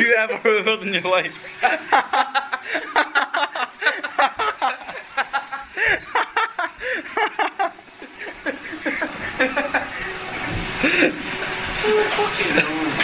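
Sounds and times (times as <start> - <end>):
men laughing: 1.4 - 13.0.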